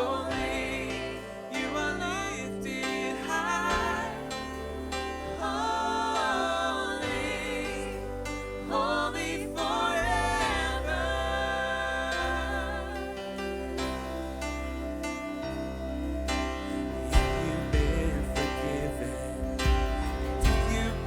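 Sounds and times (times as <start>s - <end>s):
voices singing held notes: 0.0s - 21.0s
worship band playing: 0.0s - 21.0s.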